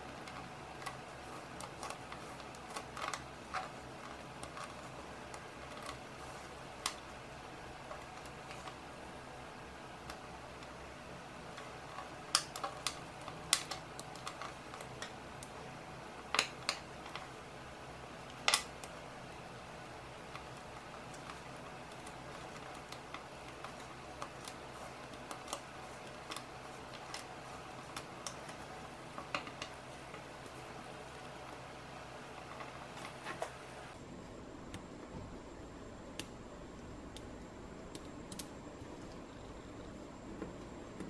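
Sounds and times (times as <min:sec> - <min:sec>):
magnetic balls clicking: 0:00.0 - 0:33.9
faint steady hum: 0:00.0 - 0:41.0.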